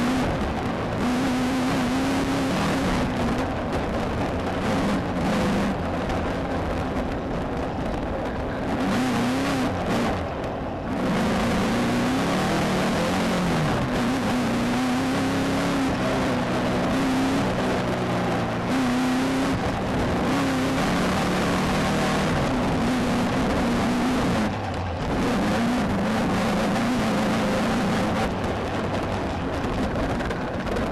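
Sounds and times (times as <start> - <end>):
car driving over rough dirt: 0.0 - 30.9
race car engine running hard: 0.0 - 30.9.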